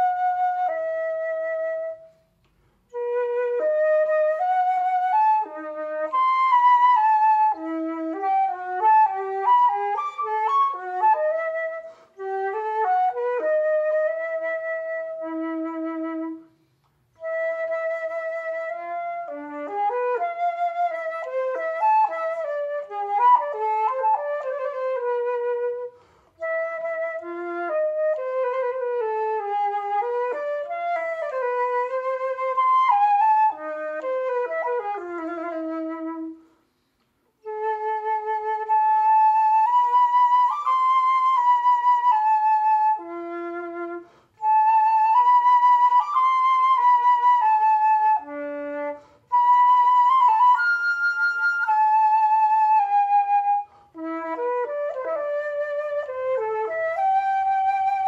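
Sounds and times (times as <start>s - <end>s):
solo flute melody: 0.0s - 58.0s.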